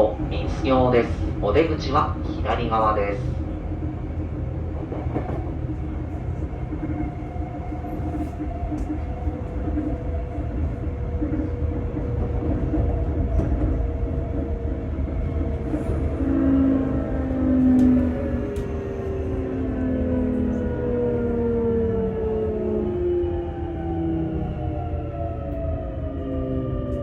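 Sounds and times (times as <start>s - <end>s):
wheel and rail rumble: 0.0s - 27.0s.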